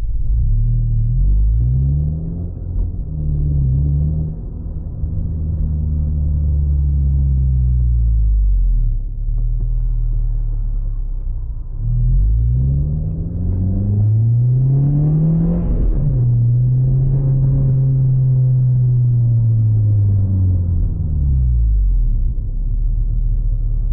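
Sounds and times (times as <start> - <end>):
car engine drone from cabin: 0.0 - 23.9.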